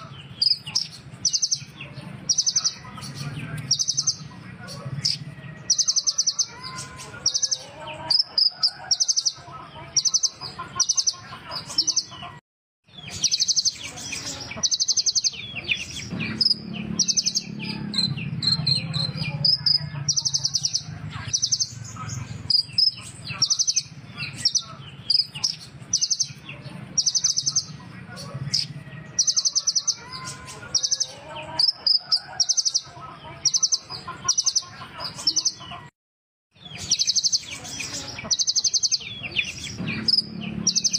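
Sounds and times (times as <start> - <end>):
small bird trilling and chirping: 0.0 - 35.9, 36.5 - 40.9.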